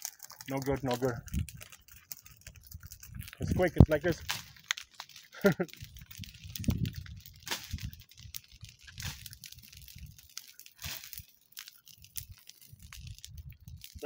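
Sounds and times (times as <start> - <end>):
burning brush crackling: 0.0 - 14.0
fire popping and cracking: 0.0 - 14.0.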